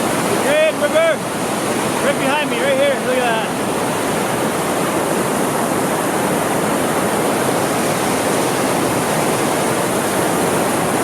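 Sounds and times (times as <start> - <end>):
river rushing through rapids: 0.0 - 11.0.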